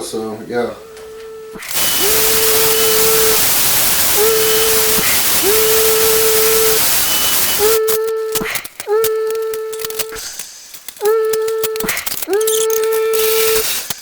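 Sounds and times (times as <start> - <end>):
loud steady hiss: 1.6 - 12.0, 12.8 - 14.0
power tool motor whirring: 1.6 - 14.0
sharp clicks: 1.6 - 14.0.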